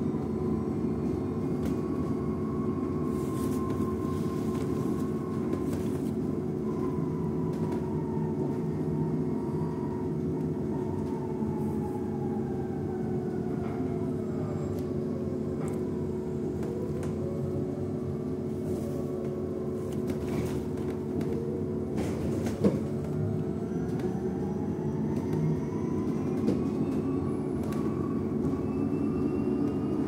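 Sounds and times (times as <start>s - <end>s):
bus cabin rumble and hum: 0.0s - 30.0s.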